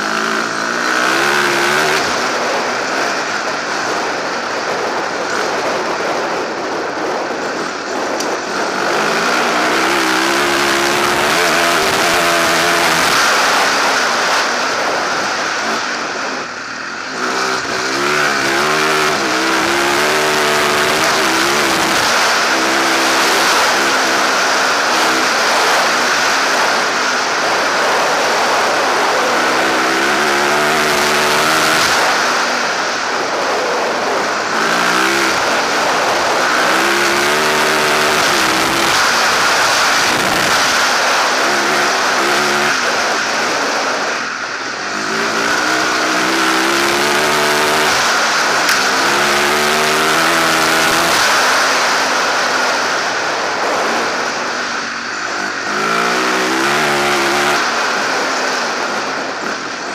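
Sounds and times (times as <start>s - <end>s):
motorcycle engine accelerating: 0.0s - 59.9s
wind and tyre noise: 0.0s - 59.9s.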